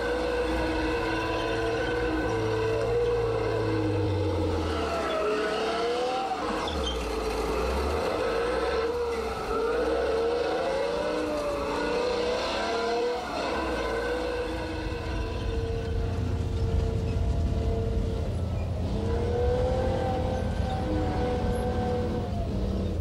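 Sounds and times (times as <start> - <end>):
tank engine labouring: 0.0 - 23.0
wavering whine: 0.0 - 23.0.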